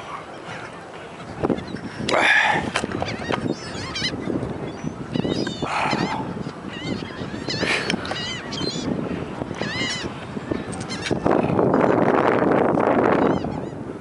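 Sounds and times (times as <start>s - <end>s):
seagulls squawking: 0.1s - 12.1s, 13.1s - 13.8s.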